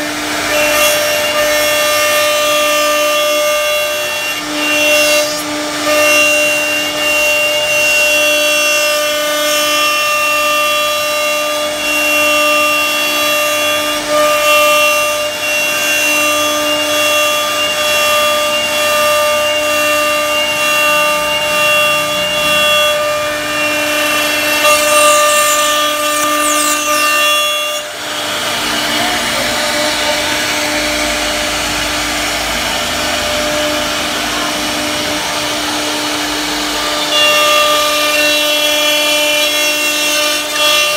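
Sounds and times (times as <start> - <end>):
bit cutting wood: 0.0 - 40.9
router spindle whining: 0.0 - 40.9.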